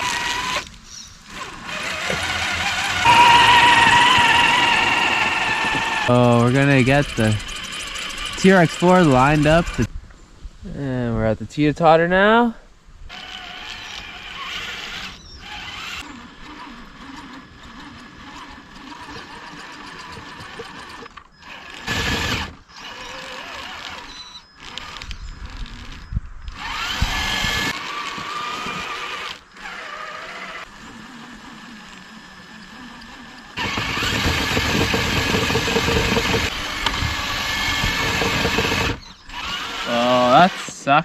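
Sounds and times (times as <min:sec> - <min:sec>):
toy electric motor whining: 0:00.0 - 0:09.9, 0:13.1 - 0:40.8.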